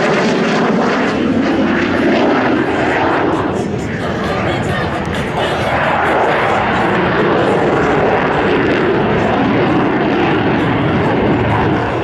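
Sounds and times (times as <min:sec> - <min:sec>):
aircraft engine flying past: 0:00.0 - 0:12.0.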